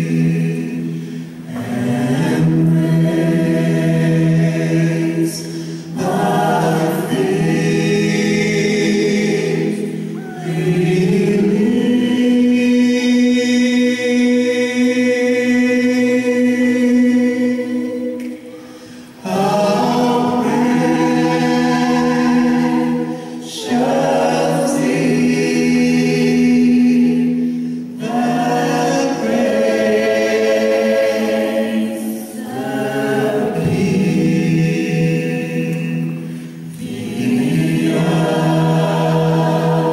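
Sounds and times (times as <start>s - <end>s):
gospel choir singing in harmony: 0.0s - 39.9s.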